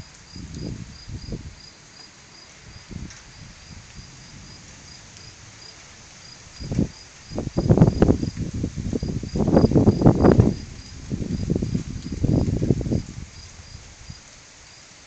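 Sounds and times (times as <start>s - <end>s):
wind rumble on microphone: 0.0s - 1.7s, 2.6s - 14.4s.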